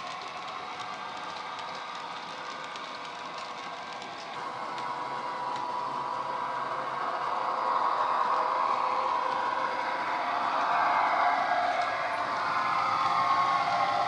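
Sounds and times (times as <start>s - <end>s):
model locomotive diesel drone: 0.0s - 14.0s
wheels clicking on track: 0.0s - 14.0s.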